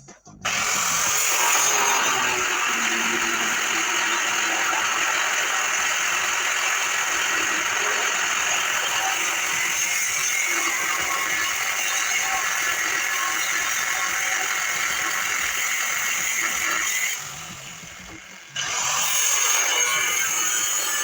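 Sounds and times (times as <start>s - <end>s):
power saw cutting steel: 0.4s - 21.0s.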